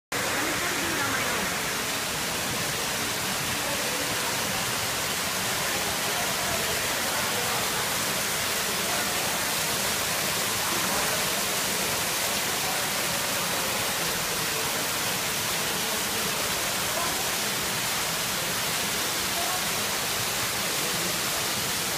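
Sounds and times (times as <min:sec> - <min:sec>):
waterfall rushing over stones: 0:00.1 - 0:21.9.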